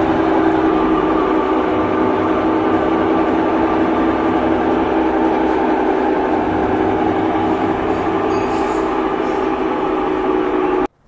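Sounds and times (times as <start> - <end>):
washing machine spin rumble: 0.0 - 11.0.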